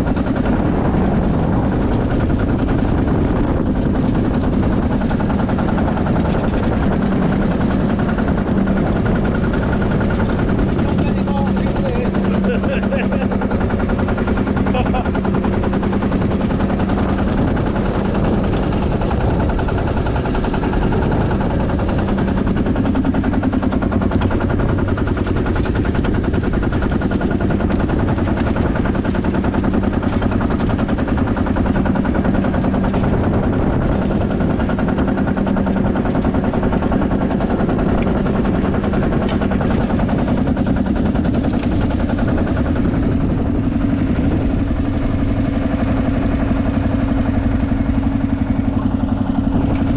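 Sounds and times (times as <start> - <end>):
diesel tractor engine popping: 0.0 - 49.9.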